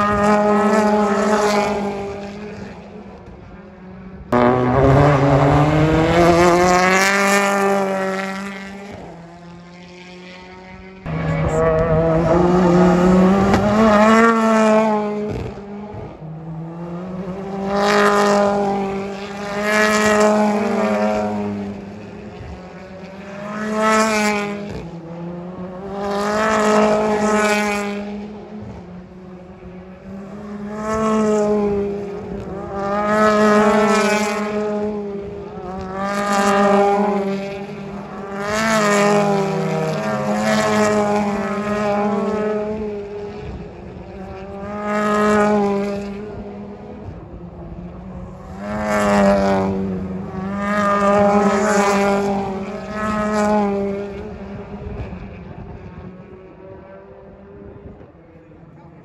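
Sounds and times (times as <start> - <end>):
racing cars passing by: 0.0 - 59.0.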